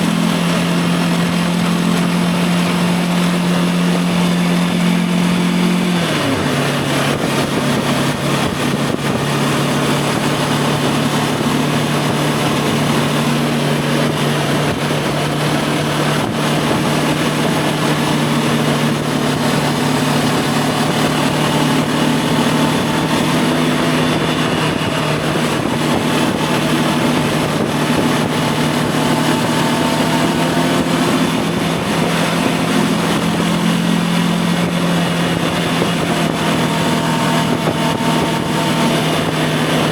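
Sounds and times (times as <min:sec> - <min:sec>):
motorcycle engine cruising: 0:00.0 - 0:39.9
wind rushing: 0:00.5 - 0:39.9.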